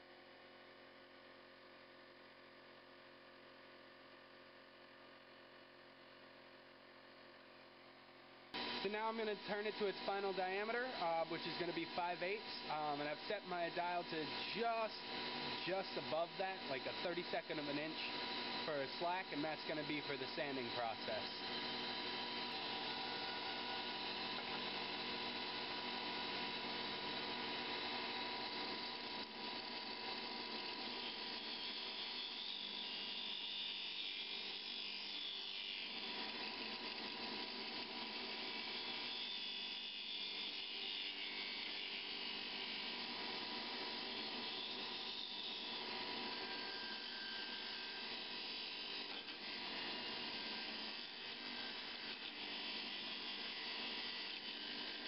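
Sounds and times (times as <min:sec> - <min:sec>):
wood lathe motor hum and whine: 0:00.0 - 0:55.0
turning tool cutting wood: 0:08.6 - 0:55.0.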